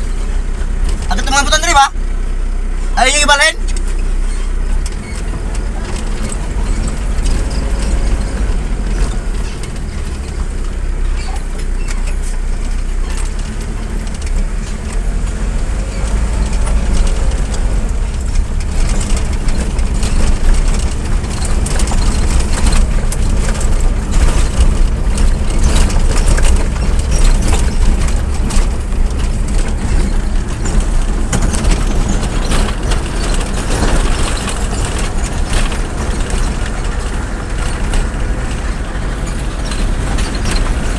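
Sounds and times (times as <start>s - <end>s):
knocks and rattles: 0.0s - 2.0s, 3.0s - 40.9s
vehicle engine and road rumble: 0.0s - 40.9s.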